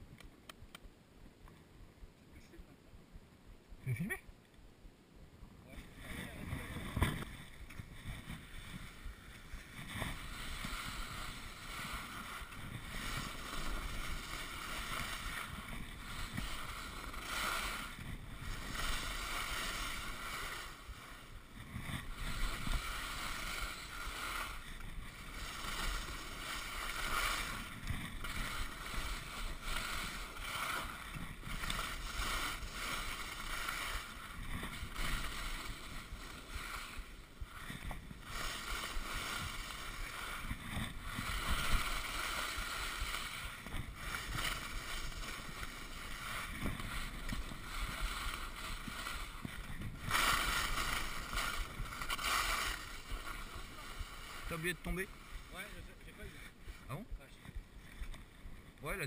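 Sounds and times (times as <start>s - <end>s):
skis scraping over snow: 5.7s - 59.0s.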